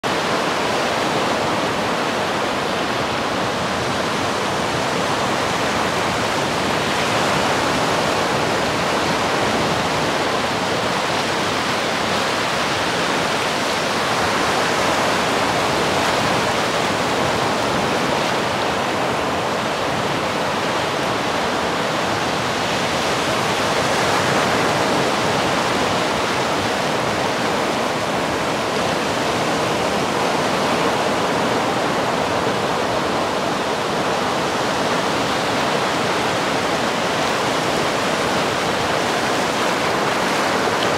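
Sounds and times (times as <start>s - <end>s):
surf breaking on a beach: 0.0s - 40.9s.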